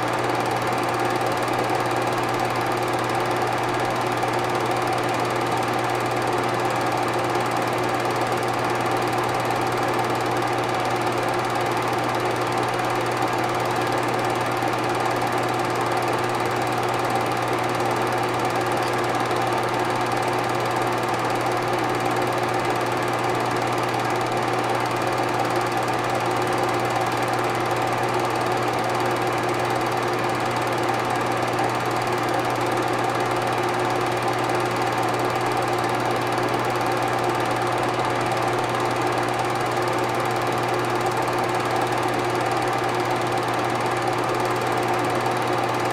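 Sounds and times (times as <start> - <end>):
film projector whirring: 0.0 - 45.9.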